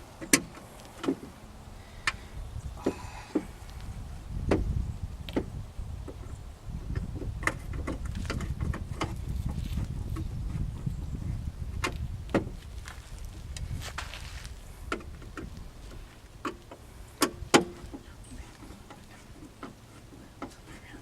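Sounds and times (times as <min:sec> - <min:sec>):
continuous low rumble: 0:00.0 - 0:21.0.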